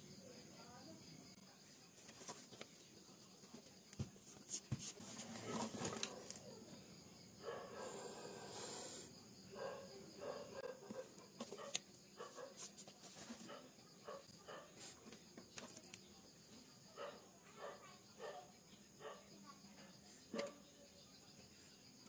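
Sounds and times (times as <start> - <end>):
faint pitched background sound: 0.0 - 22.0.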